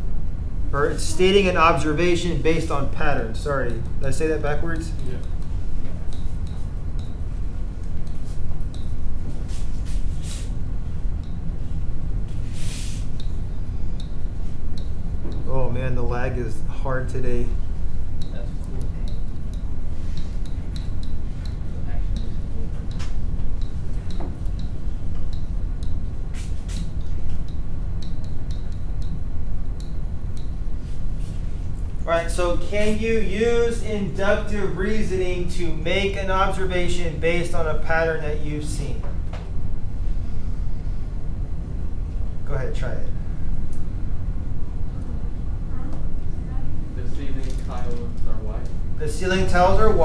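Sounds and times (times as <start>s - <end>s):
low room rumble: 0.0s - 50.0s.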